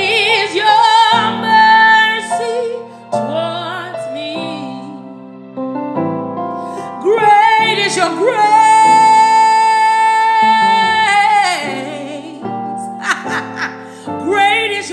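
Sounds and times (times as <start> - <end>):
woman singing: 0.0 - 5.1, 6.8 - 14.9
keyboard chords: 0.0 - 14.9.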